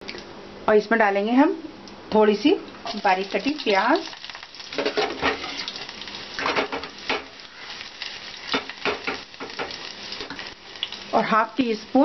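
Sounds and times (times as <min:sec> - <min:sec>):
onion sizzling in ghee: 0:02.3 - 0:12.0.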